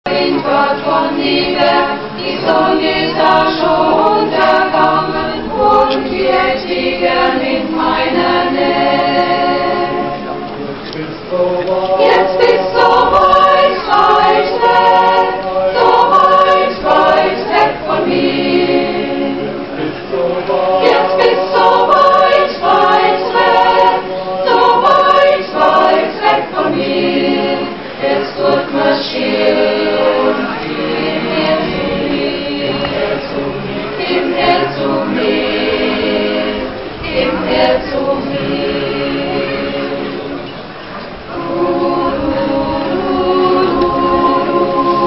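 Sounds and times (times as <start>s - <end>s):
mixed choir singing: 0.0s - 45.0s.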